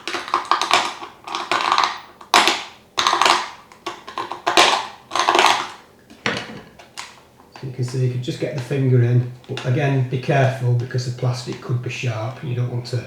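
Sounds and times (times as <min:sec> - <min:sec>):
plastic bottle crackling: 0:00.0 - 0:11.8.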